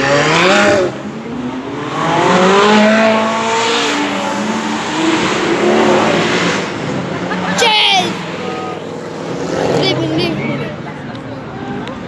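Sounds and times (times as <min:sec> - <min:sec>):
sports cars accelerating past: 0:00.0 - 0:10.9.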